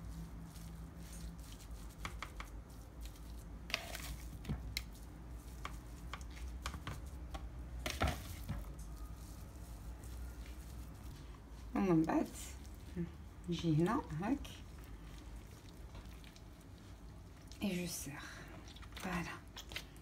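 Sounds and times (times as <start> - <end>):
hands squishing meat stuffing: 0.0 - 20.0.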